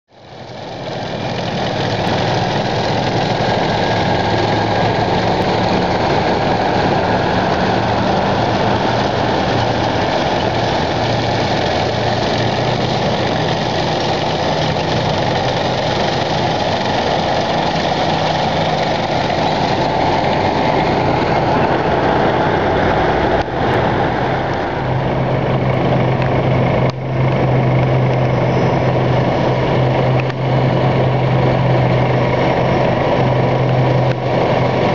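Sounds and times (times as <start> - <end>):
heavy diesel engines droning: 0.1 - 34.9
tracks rumbling on asphalt: 0.1 - 34.9.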